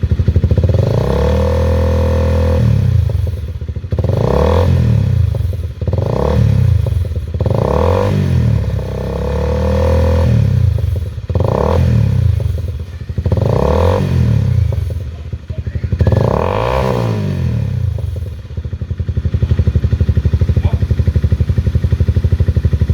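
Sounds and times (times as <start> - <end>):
motorcycle engine idling: 0.0 - 22.9
motorcycle engine revving: 0.0 - 22.9.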